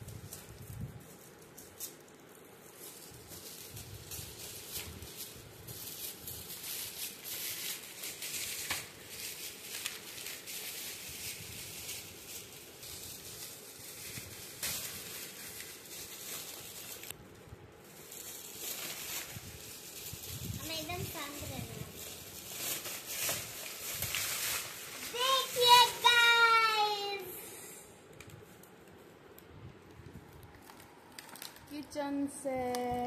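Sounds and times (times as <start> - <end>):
foil wrap crinkling and tearing: 0.0 - 26.8, 28.6 - 32.0.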